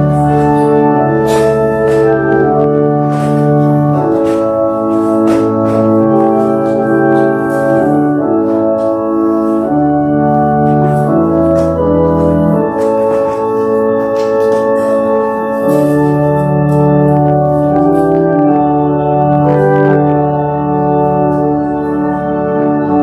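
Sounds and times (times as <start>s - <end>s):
organ playing held chords: 0.0s - 23.0s.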